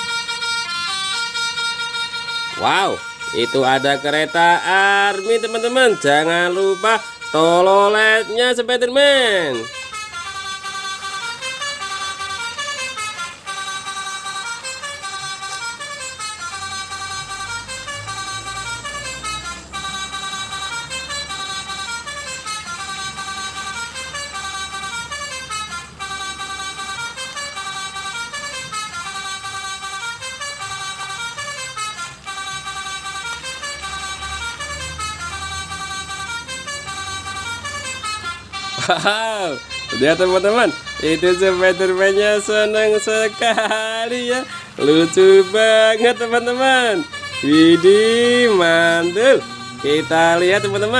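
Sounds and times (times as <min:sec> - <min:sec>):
bus horn melody: 0:00.0 - 0:50.9.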